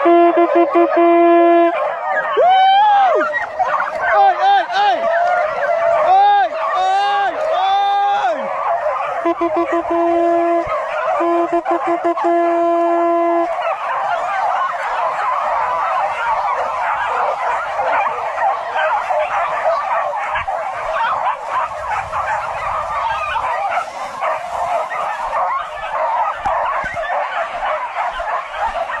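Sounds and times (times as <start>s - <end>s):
dogs barking and baying: 0.0s - 29.0s.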